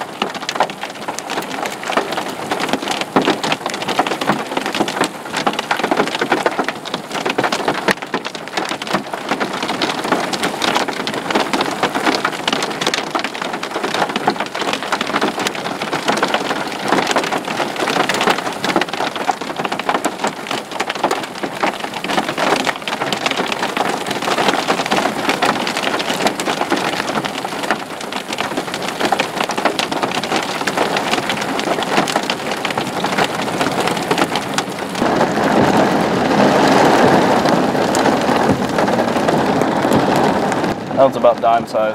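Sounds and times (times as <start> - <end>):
hail falling hard: 0.0 - 41.9.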